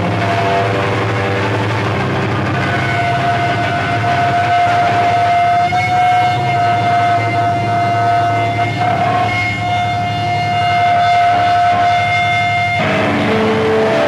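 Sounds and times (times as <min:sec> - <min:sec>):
electric guitar feedback: 0:00.0 - 0:14.0
held guitar notes: 0:00.0 - 0:14.0.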